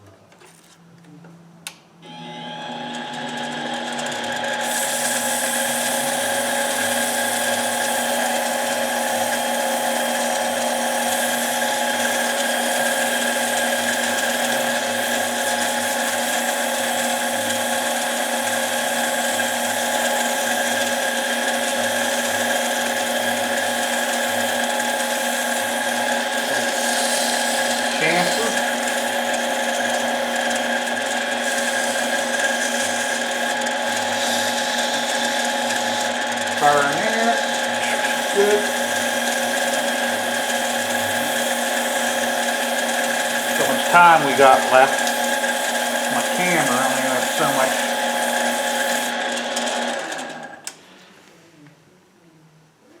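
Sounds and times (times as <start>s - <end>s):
lathe motor whine: 2.0s - 50.7s.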